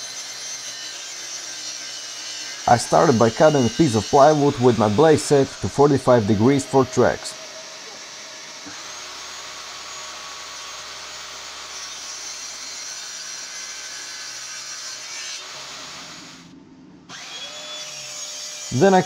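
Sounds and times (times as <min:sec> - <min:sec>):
table saw cutting plywood: 0:00.0 - 0:16.5, 0:17.1 - 0:19.0
mitre saw whine: 0:00.0 - 0:19.0.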